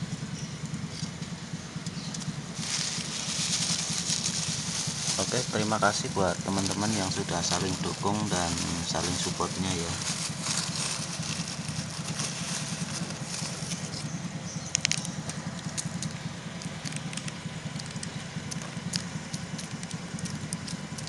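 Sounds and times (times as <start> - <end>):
low motor rumble: 0.0 - 21.0.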